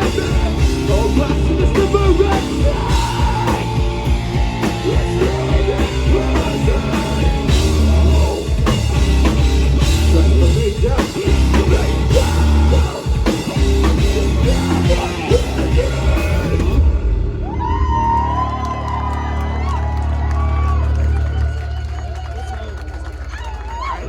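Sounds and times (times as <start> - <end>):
rock band playing live: 0.0 - 21.9
crowd noise with yells: 0.0 - 24.0.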